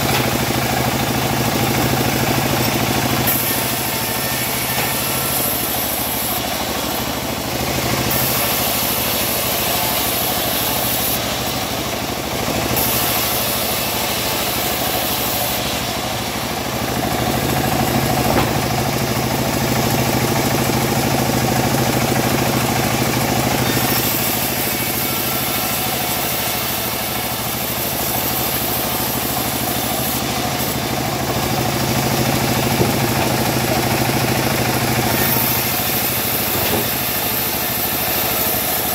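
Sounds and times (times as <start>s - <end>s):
bandsaw mill sawing wood: 0.0s - 38.9s.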